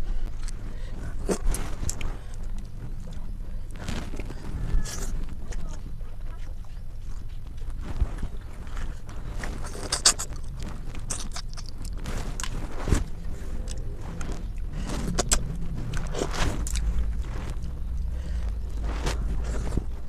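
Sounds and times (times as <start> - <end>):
low steady hum: 0.0 - 20.0
chewing with clicks and smacks: 0.2 - 20.0.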